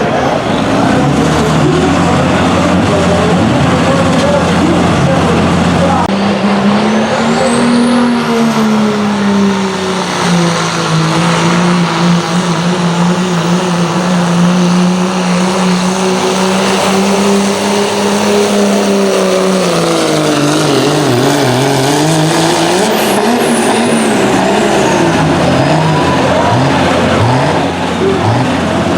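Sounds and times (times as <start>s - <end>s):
diesel truck engine revving hard: 0.0s - 28.9s.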